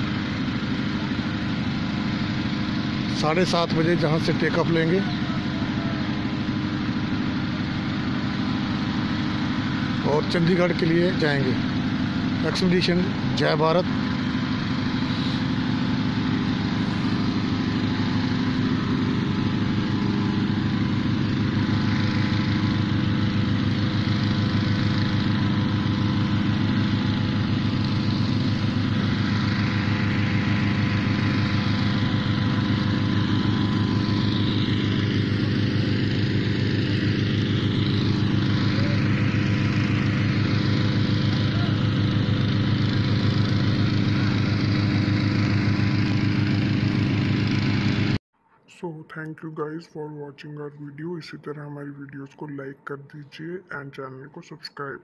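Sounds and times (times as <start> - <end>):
petrol inflator fans running: 0.0 - 55.0.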